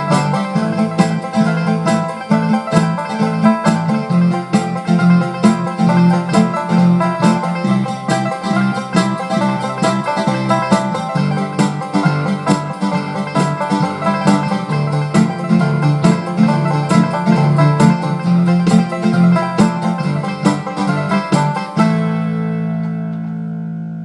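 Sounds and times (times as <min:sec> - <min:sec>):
instrumental country music: 0:00.0 - 0:24.0.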